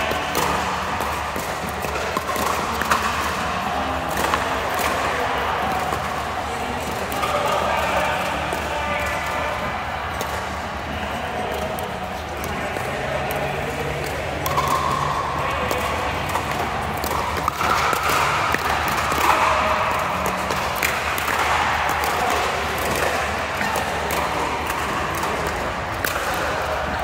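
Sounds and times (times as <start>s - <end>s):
ball bouncing on court: 0.0s - 6.2s, 11.3s - 27.0s
murmur of voices: 0.0s - 27.0s.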